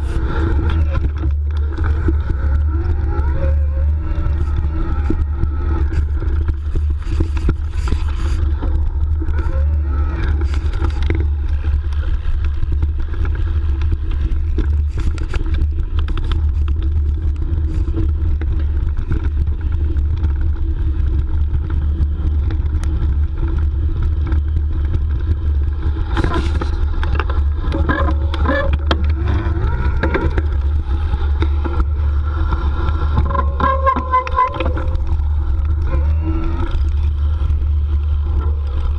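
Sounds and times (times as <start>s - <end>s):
bike rattles and scrapes: 0.0s - 38.9s
wind on microphone: 0.0s - 38.9s.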